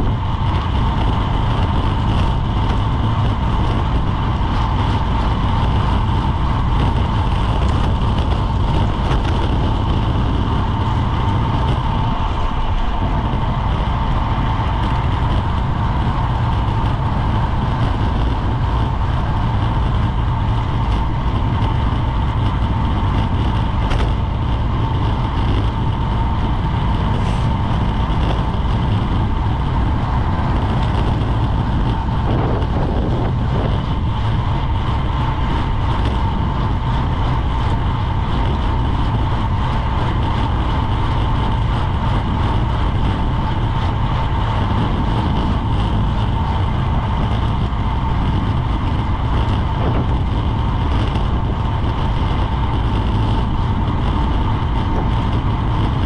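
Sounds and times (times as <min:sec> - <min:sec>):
tyre and road noise: 0:00.0 - 0:56.0
wind rushing over microphone: 0:00.0 - 0:56.0.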